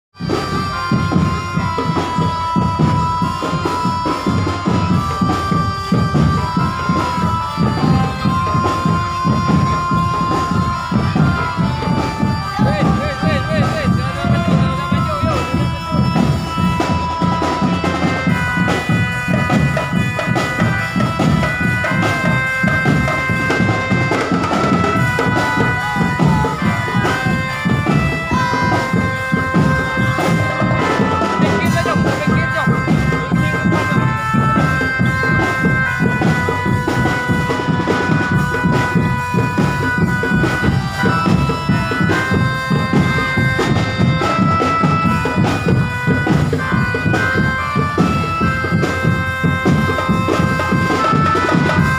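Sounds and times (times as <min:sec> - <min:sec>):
dense drumming: 0:00.2 - 0:51.9
reedy wind melody: 0:00.2 - 0:51.9.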